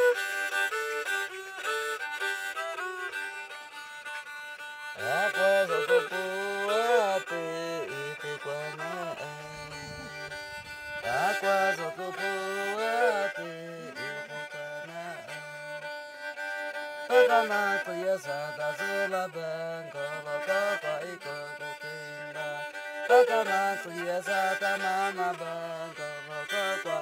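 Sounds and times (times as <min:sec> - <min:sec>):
bowed stick fiddle melody: 0:00.0 - 0:27.0.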